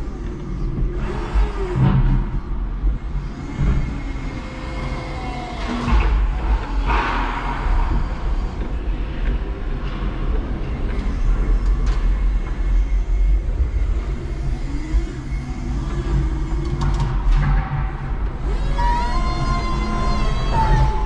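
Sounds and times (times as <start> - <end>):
motor whine: 0.0 - 9.7, 10.5 - 21.0.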